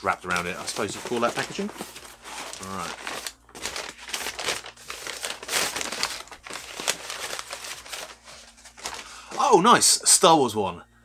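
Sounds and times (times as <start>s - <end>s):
paper crumpling and rustling: 0.0s - 9.6s.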